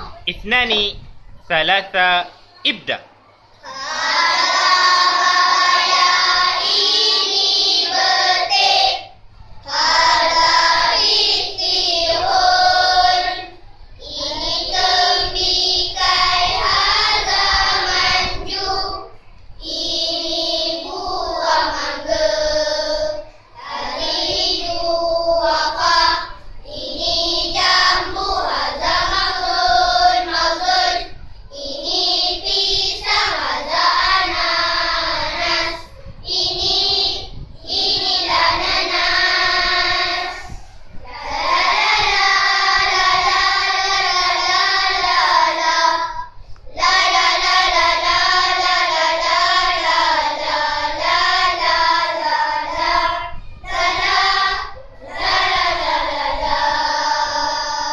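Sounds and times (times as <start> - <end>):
children singing in unison: 3.6 - 57.9.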